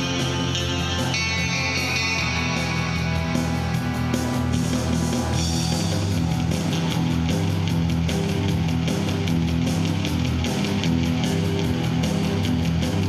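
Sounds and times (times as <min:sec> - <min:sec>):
accompaniment with steady beat: 0:00.0 - 0:13.0
electric guitar melody: 0:00.0 - 0:13.0.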